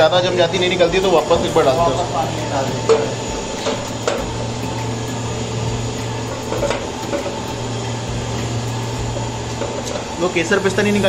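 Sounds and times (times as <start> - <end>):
refrigeration machinery hum: 0.0 - 11.0.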